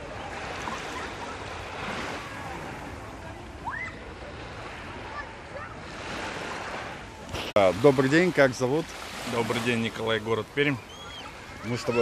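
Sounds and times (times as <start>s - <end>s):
small waves washing on sand: 0.0s - 12.0s.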